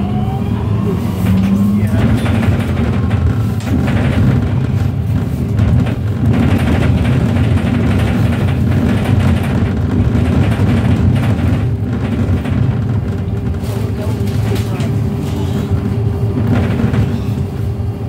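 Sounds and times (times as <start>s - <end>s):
electric bus rumbling: 0.0s - 18.0s.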